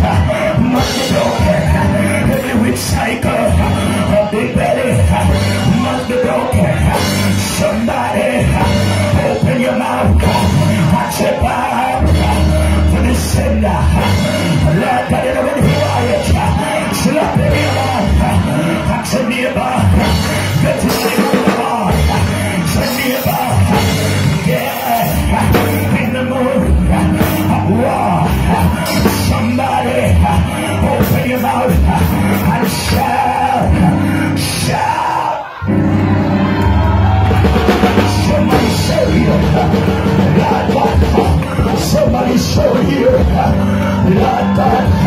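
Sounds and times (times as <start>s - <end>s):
live band with drum kit: 0.0s - 45.0s
people singing and shouting: 0.0s - 45.0s.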